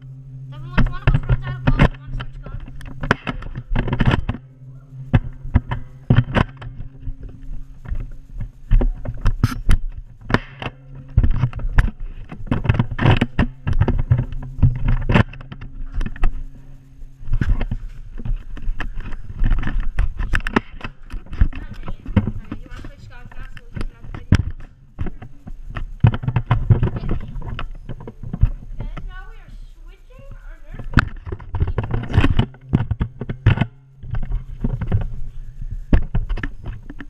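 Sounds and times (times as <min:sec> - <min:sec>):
steady low hum: 0:00.0 - 0:37.0
camera knocks and rubbing: 0:00.8 - 0:04.5, 0:05.1 - 0:16.5, 0:17.2 - 0:29.1, 0:30.3 - 0:37.0.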